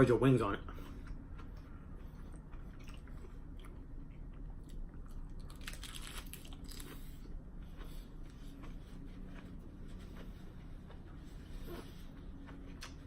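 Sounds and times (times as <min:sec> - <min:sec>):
crunchy chewing of lettuce: 0:00.8 - 0:13.0.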